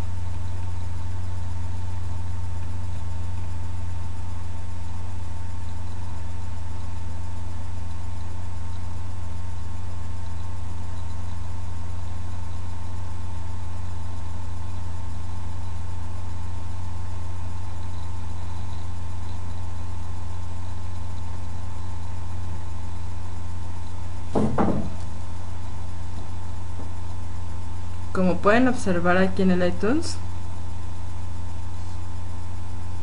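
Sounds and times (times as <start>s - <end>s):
faint high whine: 0.0s - 33.0s
steady low hum: 0.0s - 33.0s.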